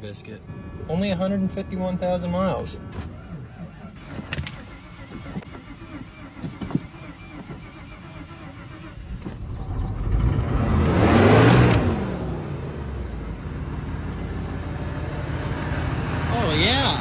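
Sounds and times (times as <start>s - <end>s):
engine cranking and idling: 1.6s - 17.0s.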